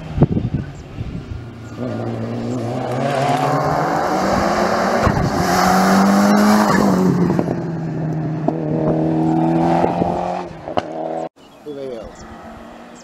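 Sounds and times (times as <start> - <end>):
rally car engine passing: 0.0 - 11.3, 12.0 - 13.0.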